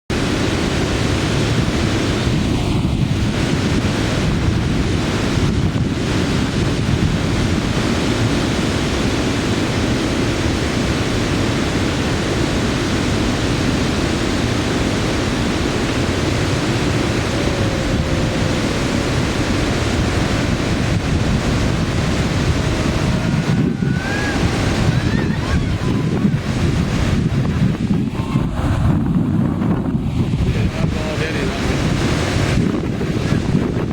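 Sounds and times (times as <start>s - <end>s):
river water rushing: 0.1s - 28.3s, 30.1s - 33.9s
wind buffeting microphone: 0.1s - 33.9s.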